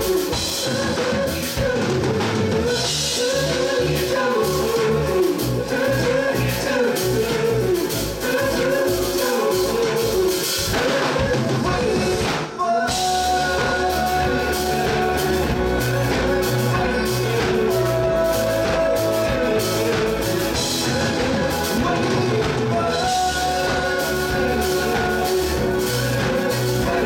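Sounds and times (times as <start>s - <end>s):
drum kit beat: 0.0s - 27.0s
electric guitar: 0.0s - 27.0s
keyboards: 0.0s - 27.0s
sung vocals: 0.0s - 27.0s.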